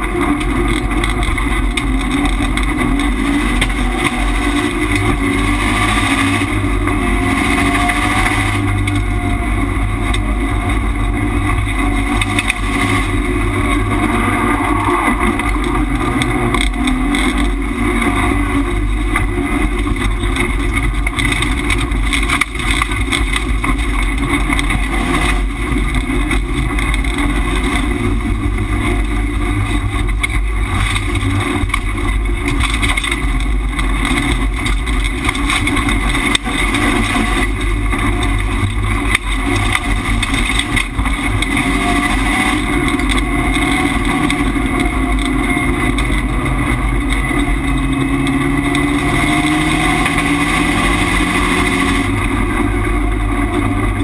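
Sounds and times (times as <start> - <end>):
racing car engine pulling hard: 0.0 - 54.0
road noise: 0.0 - 54.0.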